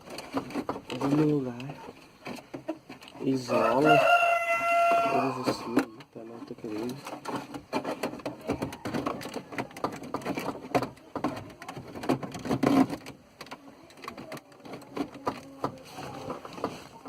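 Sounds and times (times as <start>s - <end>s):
clicking and rattling of plastic parts: 0.0s - 3.4s, 5.3s - 17.0s.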